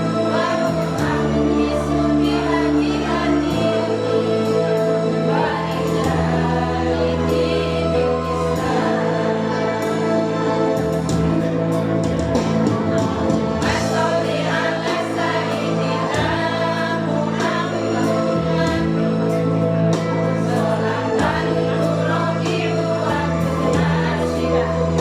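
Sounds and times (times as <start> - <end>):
choir singing: 0.0 - 25.0
instrumental backing with beat: 0.0 - 25.0.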